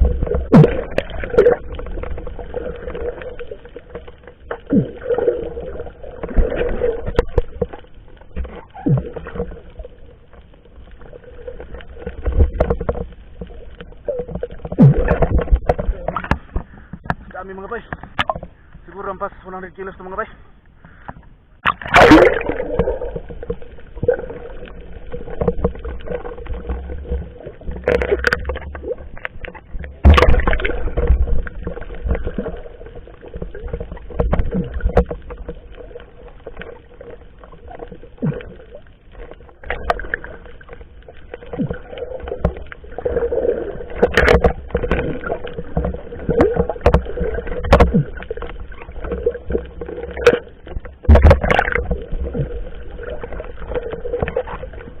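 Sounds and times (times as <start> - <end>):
water sloshing and splashing: 0.0 - 18.9, 20.8 - 55.0.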